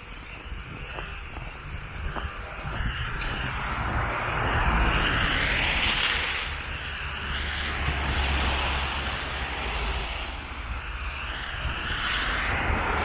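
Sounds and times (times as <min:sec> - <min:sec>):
low traffic rumble: 0:00.0 - 0:13.0
tyres of passing cars hissing: 0:00.0 - 0:13.0.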